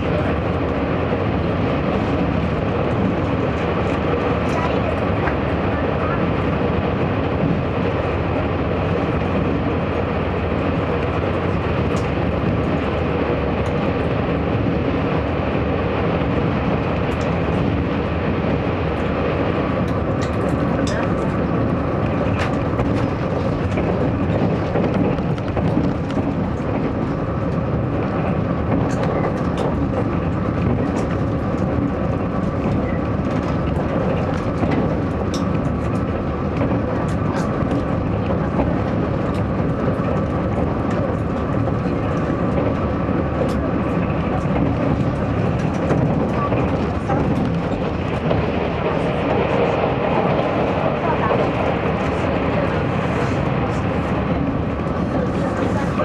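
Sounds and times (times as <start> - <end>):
train wheels rolling on rails: 0.0 - 56.0.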